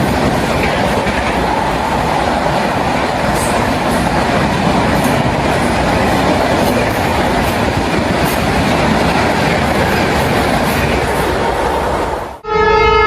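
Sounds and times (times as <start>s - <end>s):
train passing at high speed: 0.0s - 13.0s.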